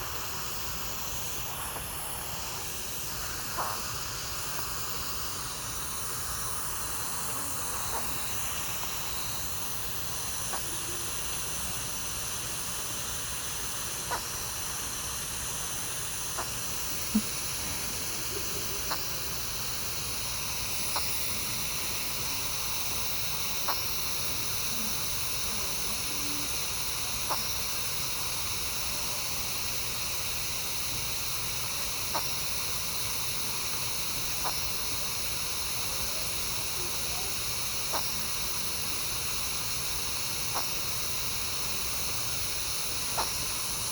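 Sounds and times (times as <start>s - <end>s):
steady hiss: 0.0s - 43.9s.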